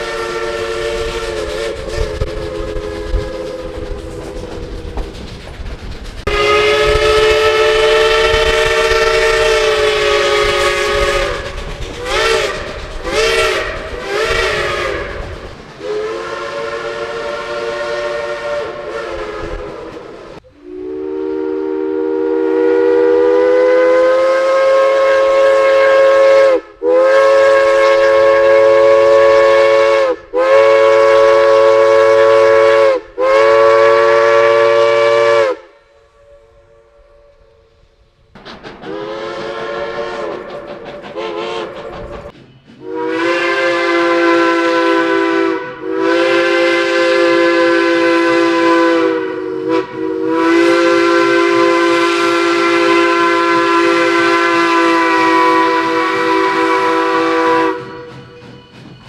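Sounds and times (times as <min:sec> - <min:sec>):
steam locomotive chime whistle: 0:00.0 - 0:04.5, 0:06.3 - 0:38.1, 0:38.8 - 0:59.0.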